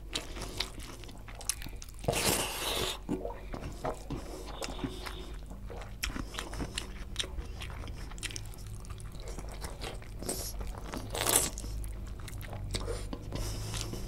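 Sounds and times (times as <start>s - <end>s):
man biting and chewing meat: 0.0s - 14.0s.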